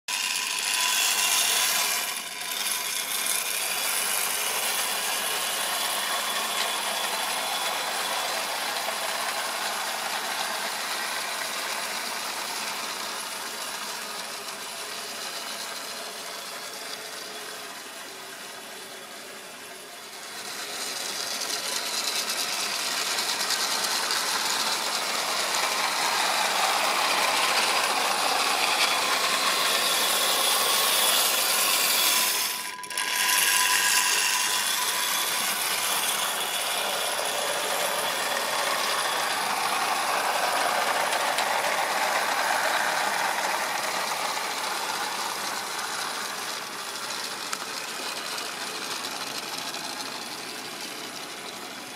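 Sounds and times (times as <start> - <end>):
model train wheels clattering: 0.1 - 51.9.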